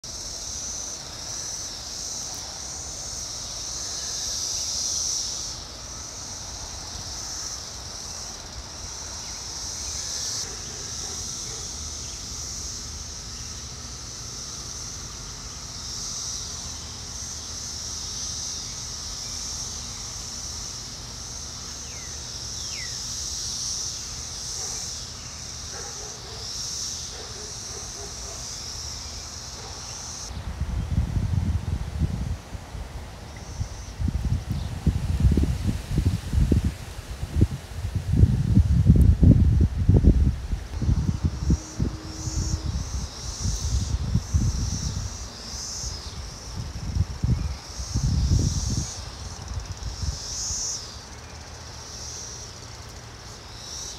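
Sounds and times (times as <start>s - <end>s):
cicadas buzzing: 0.0s - 53.9s.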